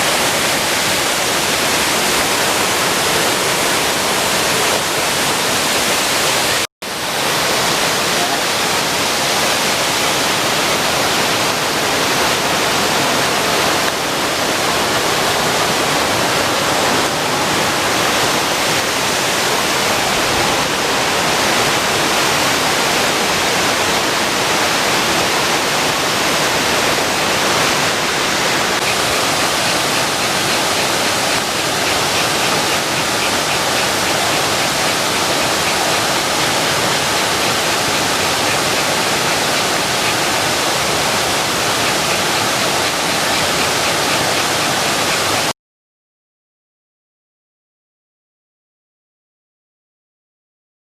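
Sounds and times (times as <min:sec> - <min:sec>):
waterfall rushing: 0:00.0 - 0:45.5.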